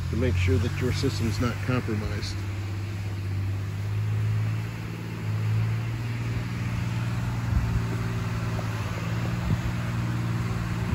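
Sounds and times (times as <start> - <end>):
low mechanical hum: 0.0 - 10.9
vapor hissing from sprinklers: 0.0 - 10.9.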